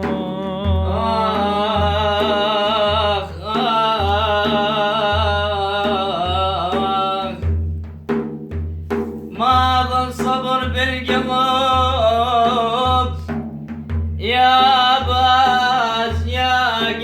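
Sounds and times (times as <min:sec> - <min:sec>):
man singing melismatic line: 0:00.0 - 0:07.5, 0:09.3 - 0:13.3, 0:14.2 - 0:17.0
hand drum beating: 0:00.0 - 0:17.0.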